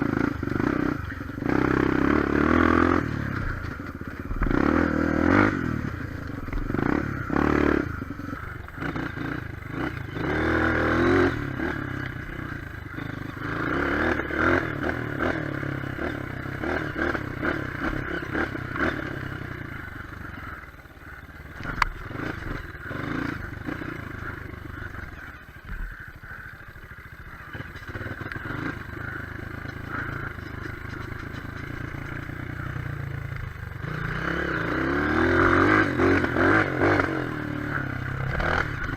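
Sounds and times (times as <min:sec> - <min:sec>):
bike rattling and scraping: 0:00.0 - 0:38.9
motorcycle engine revving: 0:00.0 - 0:38.9.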